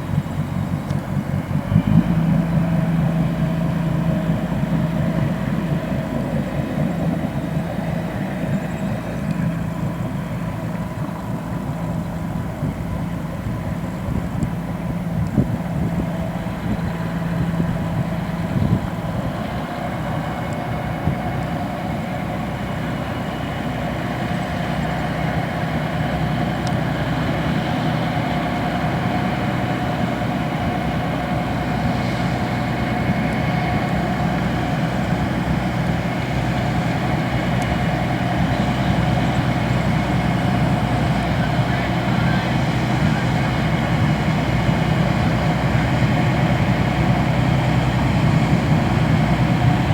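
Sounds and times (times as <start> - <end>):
boat diesel engines humming: 0.0 - 49.9.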